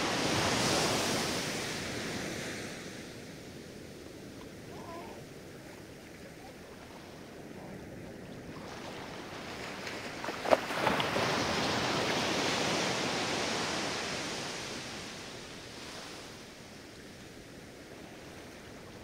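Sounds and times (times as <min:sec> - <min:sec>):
surf washing up beach: 0:00.0 - 0:19.0.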